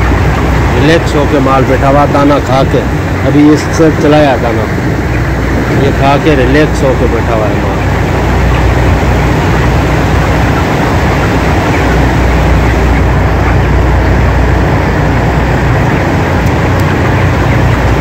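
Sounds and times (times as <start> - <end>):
exhaust fans droning: 0.0 - 18.0.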